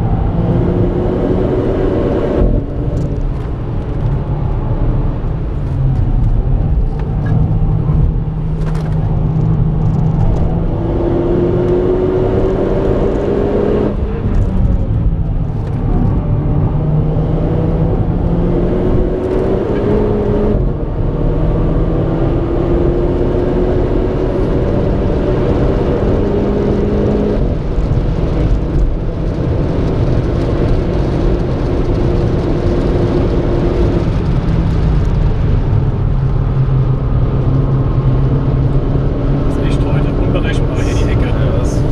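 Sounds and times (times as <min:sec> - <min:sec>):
car engine accelerating: 0:00.0 - 0:41.9
road and tyre rumble: 0:00.0 - 0:41.9.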